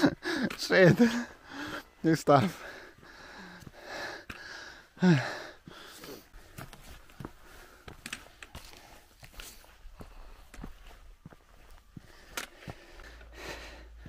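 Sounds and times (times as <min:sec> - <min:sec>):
person breathing hard: 0:00.0 - 0:11.0, 0:12.0 - 0:14.0
footsteps on stone path: 0:00.0 - 0:14.0.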